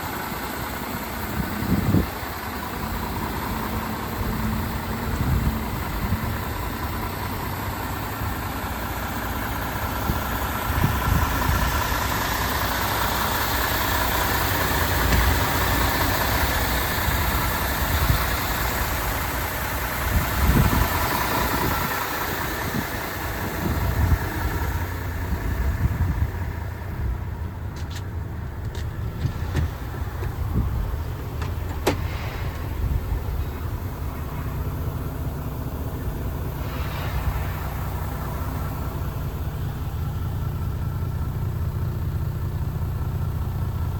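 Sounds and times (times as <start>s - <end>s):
truck diesel engine idling: 0.0s - 43.9s.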